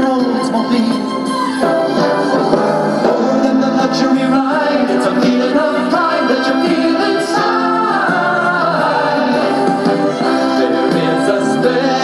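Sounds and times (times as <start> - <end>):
choir music from small speakers: 2.0 - 12.0.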